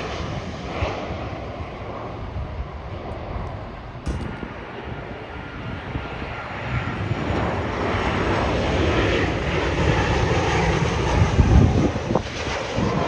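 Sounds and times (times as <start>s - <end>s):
jet airliner engines roaring overhead: 0.0s - 13.0s.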